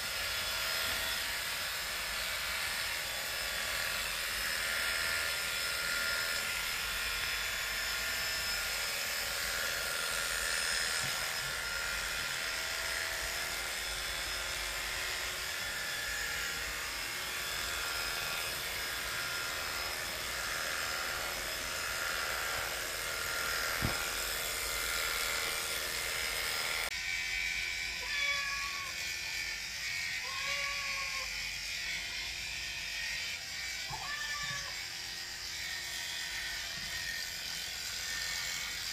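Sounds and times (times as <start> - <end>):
electric clippers buzzing: 0.0 - 38.9.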